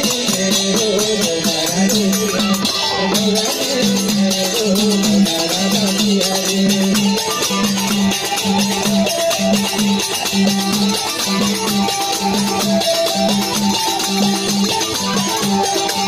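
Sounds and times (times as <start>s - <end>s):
harmonium melody: 0.0s - 16.0s
jingling percussion: 0.0s - 16.0s.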